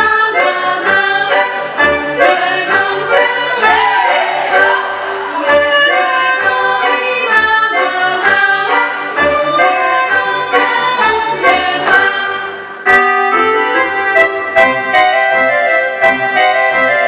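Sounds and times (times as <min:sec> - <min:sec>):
accordion: 0:00.0 - 0:17.0
folk dance band music: 0:00.0 - 0:17.0.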